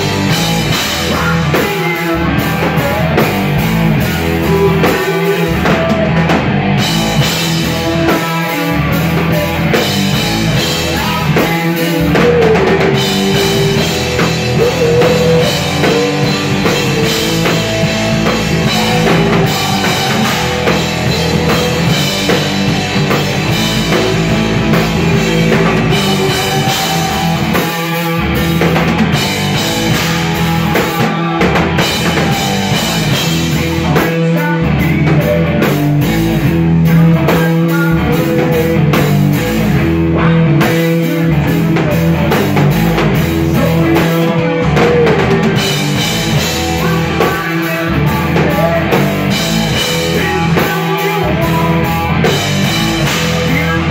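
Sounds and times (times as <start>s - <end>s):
drum kit: 0.0s - 53.9s
electric guitars: 0.0s - 53.9s
live rock band: 0.0s - 53.9s.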